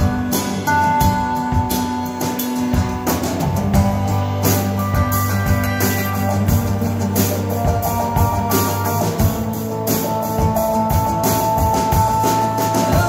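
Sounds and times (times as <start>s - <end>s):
acoustic guitars strumming: 0.0s - 13.0s
drum and cymbal hits: 0.0s - 13.0s.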